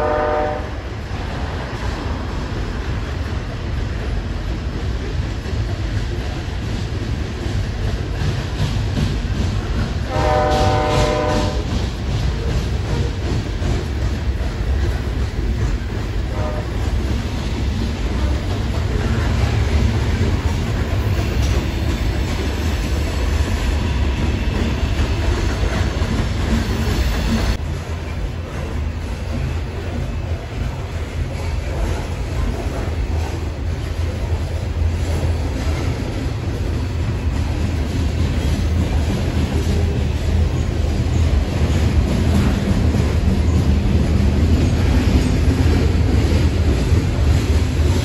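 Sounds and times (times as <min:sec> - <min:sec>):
freight cars rumbling on rails: 0:00.0 - 0:48.0.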